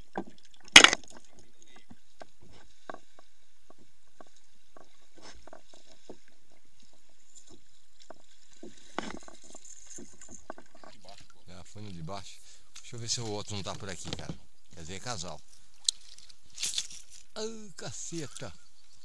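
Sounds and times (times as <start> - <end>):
paddle splashes: 0.0 - 17.2
water lapping against hulls: 0.0 - 19.0.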